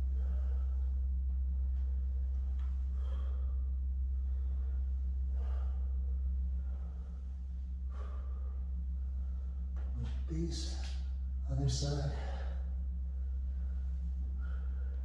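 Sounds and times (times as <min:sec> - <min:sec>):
man breathing heavily: 0:00.0 - 0:15.0
steady low hum: 0:00.0 - 0:15.0.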